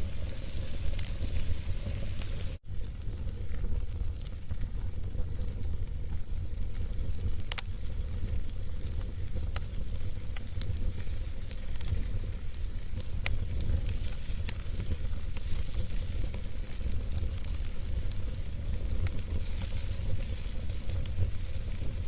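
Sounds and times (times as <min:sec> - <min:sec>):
fire crackling and popping: 0:00.0 - 0:22.0
fire rumbling and hissing: 0:00.0 - 0:22.0.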